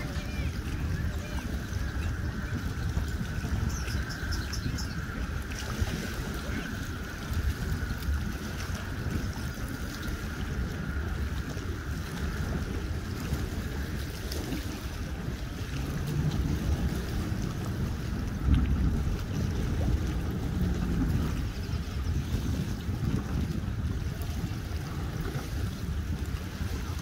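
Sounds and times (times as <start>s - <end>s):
small waves lapping: 0.0s - 27.0s
wind buffeting microphone: 0.0s - 27.0s.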